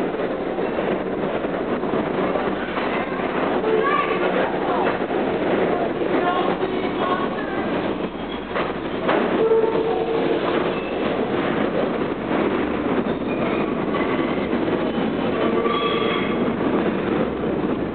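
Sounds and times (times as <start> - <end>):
train wheels rumbling on rail: 0.0 - 17.9
sharp rail clacks: 1.4 - 17.4.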